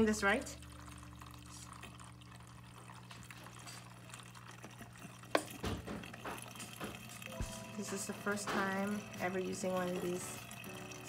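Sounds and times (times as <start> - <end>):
water trickling into tube: 0.0 - 11.0.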